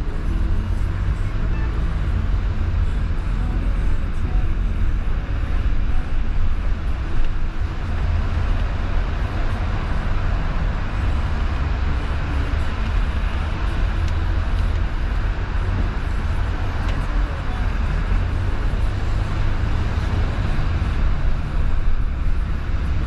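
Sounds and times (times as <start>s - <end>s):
engine and tyre rumble: 0.0s - 23.0s.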